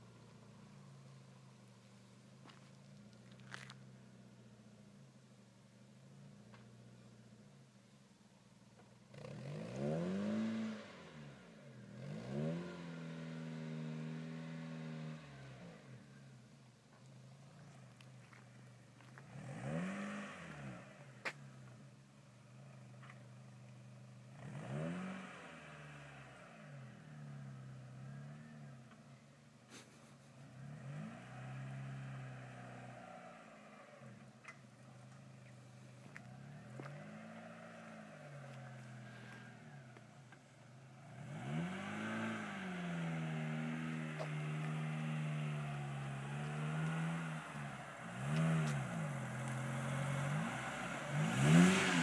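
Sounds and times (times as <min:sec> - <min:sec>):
car engine revving: 0:09.1 - 0:16.1, 0:17.4 - 0:52.0.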